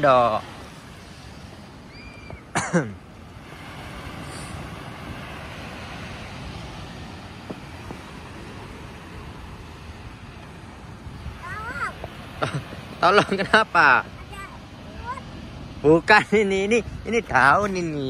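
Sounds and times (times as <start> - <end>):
surf breaking on sandy beach: 0.0 - 18.0.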